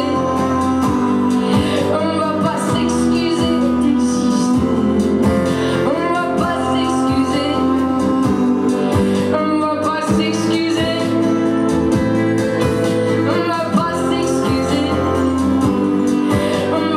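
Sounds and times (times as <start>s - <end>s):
electric guitar: 0.0s - 16.9s
person singing: 0.0s - 16.9s
strummed acoustic guitar: 0.0s - 16.9s.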